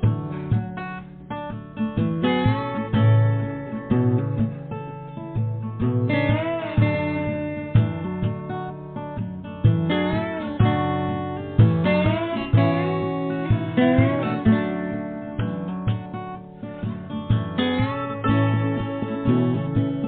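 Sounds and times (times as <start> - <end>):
bending lead guitar melody: 0.0 - 20.0
strummed acoustic guitar chords: 0.0 - 20.0.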